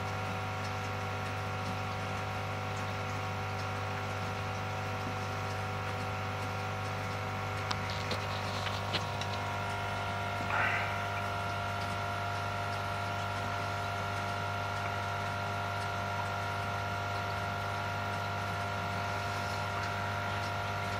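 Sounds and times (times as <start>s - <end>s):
aquarium equipment humming: 0.0s - 20.9s.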